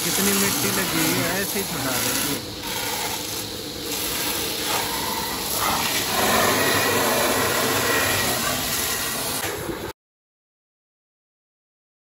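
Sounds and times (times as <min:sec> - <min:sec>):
pressure washer spraying water: 0:00.0 - 0:09.9.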